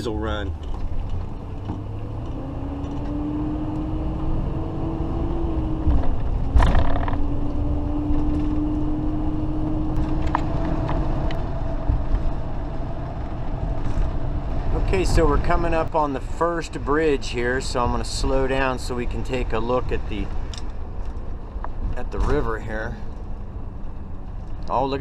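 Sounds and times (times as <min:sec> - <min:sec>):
diesel engine droning: 0:00.0 - 0:25.0
road rumble: 0:00.0 - 0:25.0.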